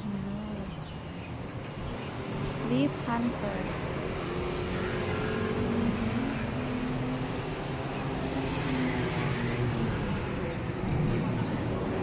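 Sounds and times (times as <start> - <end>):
street traffic: 0.0 - 12.0
vehicle engine humming: 0.0 - 12.0.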